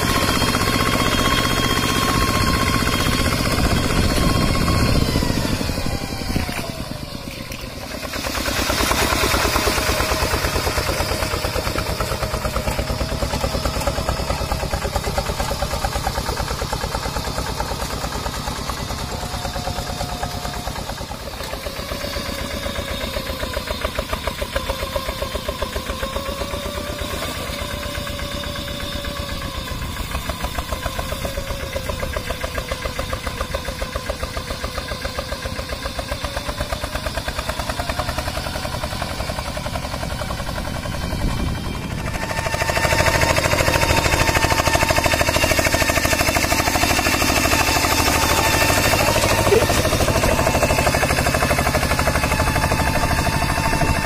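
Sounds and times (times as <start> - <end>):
hand tractor diesel engine running: 0.0 - 54.0.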